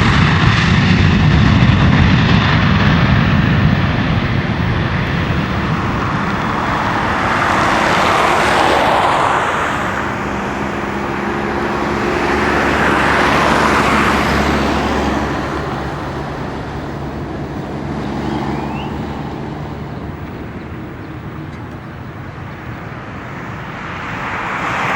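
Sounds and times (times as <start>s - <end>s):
jet engines rumbling: 0.0s - 24.9s
road traffic passing: 0.0s - 24.9s.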